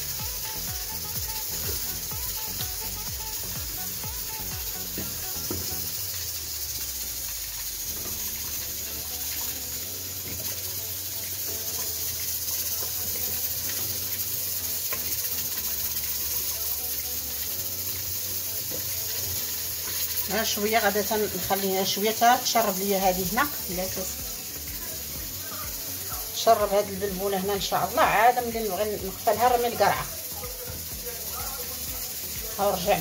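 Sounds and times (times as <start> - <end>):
pot hissing on gas stove: 0.0 - 33.0.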